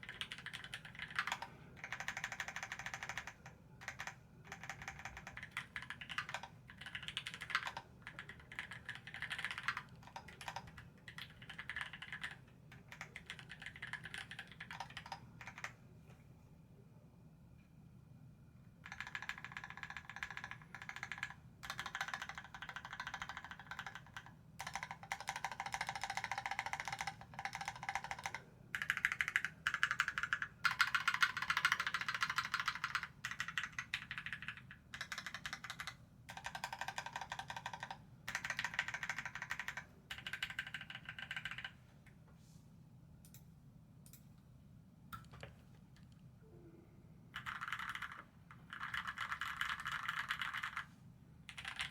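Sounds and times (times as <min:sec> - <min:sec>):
keyboard typing: 0:00.0 - 0:15.8, 0:18.8 - 0:41.8, 0:47.4 - 0:50.9, 0:51.5 - 0:51.9.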